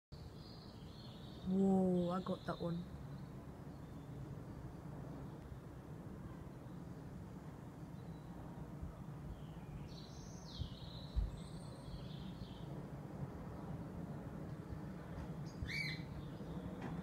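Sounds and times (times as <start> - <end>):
songbirds singing: 0.2 - 17.0.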